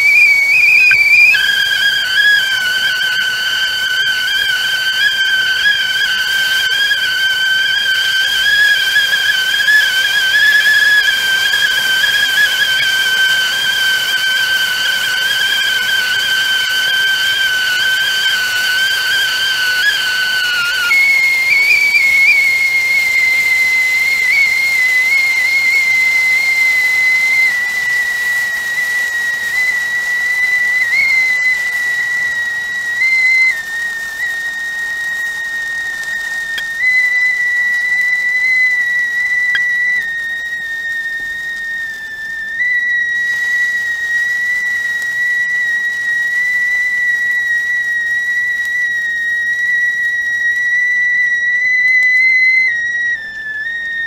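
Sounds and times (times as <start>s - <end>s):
whistling teapot: 0.0s - 54.0s.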